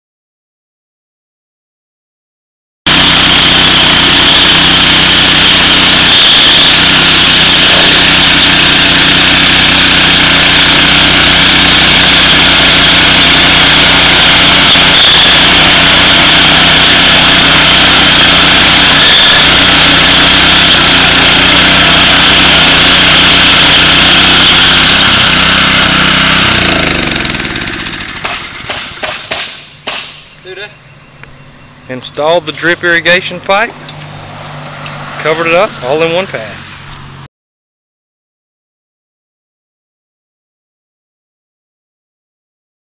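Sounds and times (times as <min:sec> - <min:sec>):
small engine running: 0:02.9 - 0:37.3.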